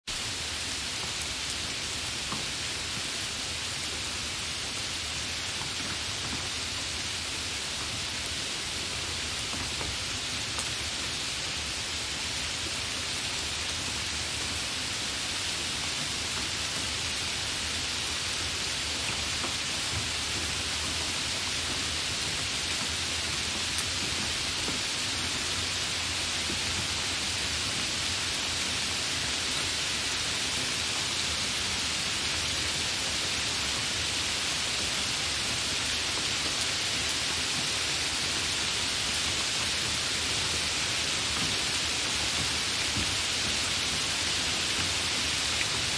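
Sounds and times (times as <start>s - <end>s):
heavy rain hissing: 0.1s - 45.9s.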